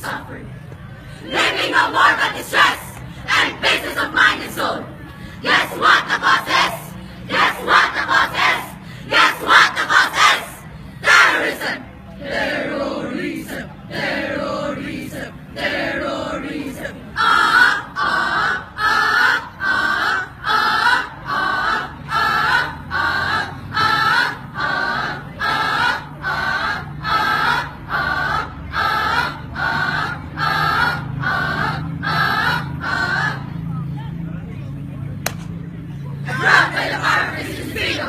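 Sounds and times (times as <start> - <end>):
young voices chanting: 1.1 - 33.7, 36.2 - 38.0.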